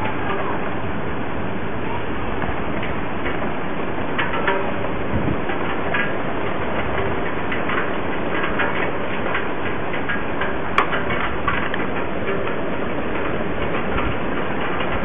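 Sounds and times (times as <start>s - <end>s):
strong wind through trees: 0.0s - 15.0s
wind buffeting microphone: 0.0s - 15.0s.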